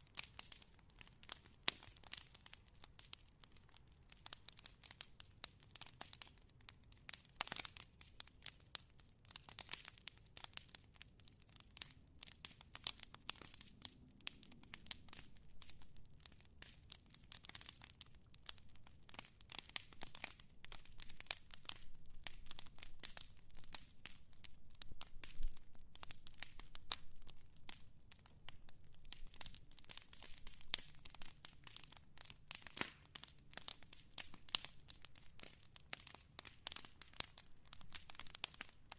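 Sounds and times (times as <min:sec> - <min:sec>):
low rumble of burning: 0:00.0 - 0:38.9
wood fire crackling: 0:00.0 - 0:38.9.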